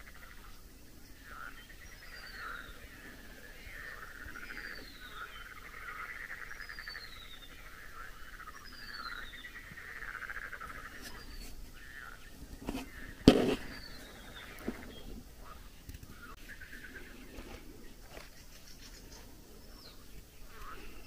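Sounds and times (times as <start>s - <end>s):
frogs trilling: 0.0s - 21.0s.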